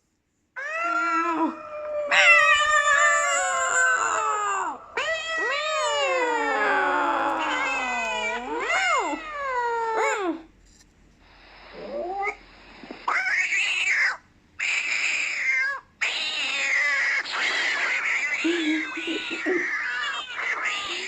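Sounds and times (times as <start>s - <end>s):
cat-like yowls: 0.6s - 10.4s, 13.1s - 21.0s.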